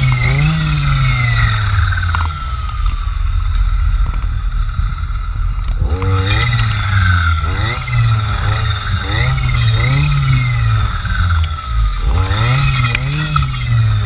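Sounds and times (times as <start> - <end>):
clearing saw engine revving: 0.0 - 3.3, 5.6 - 14.0.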